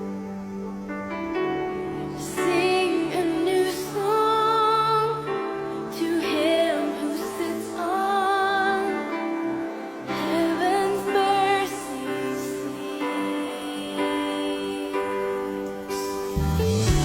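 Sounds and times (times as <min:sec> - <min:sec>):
slow gentle music: 0:00.0 - 0:17.0
woman singing with vibrato: 0:02.0 - 0:16.3.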